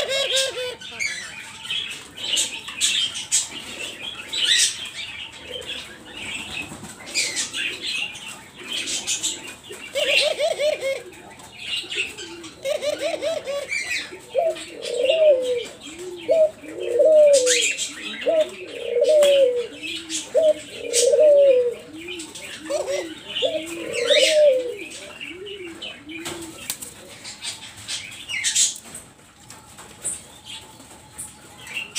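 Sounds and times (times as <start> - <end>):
dove cooing: 0.0 - 29.0.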